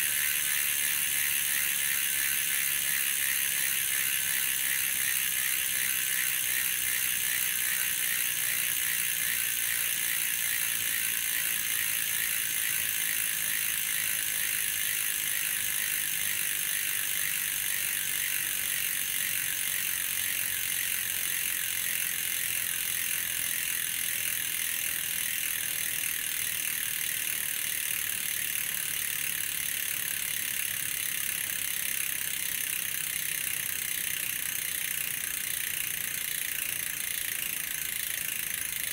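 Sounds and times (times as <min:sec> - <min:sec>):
bicycle freehub clicking buzz: 0:00.0 - 0:38.9.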